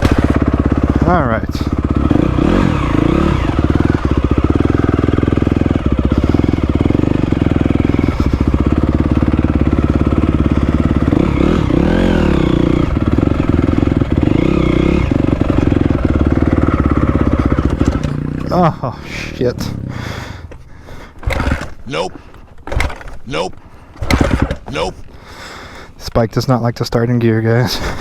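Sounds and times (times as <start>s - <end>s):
dirt bike engine idling and revving: 0.0s - 25.8s.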